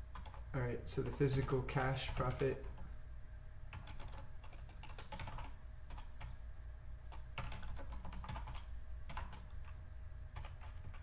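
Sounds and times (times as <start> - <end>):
low steady hum: 0.0 - 11.0
computer keyboard typing: 0.1 - 2.9, 3.7 - 6.4, 7.1 - 11.0.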